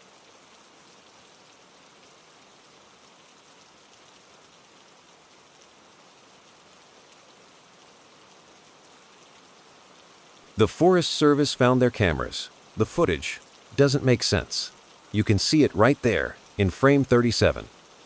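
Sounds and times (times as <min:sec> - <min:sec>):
soft rain patter: 0:00.0 - 0:18.0.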